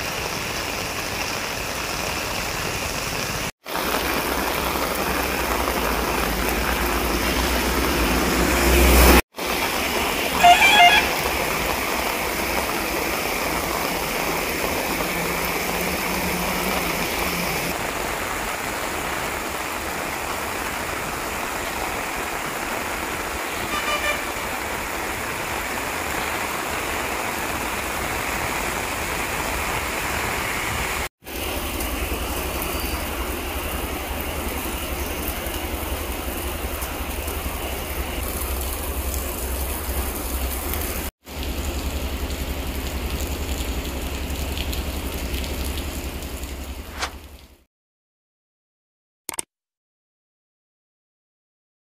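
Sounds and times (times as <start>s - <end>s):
heavy rain on puddles: 0.0s - 47.7s.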